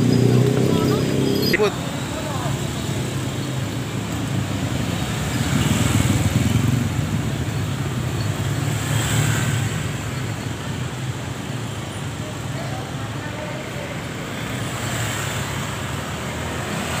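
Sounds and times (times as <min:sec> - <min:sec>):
motorcycles and cars passing: 0:00.0 - 0:17.0.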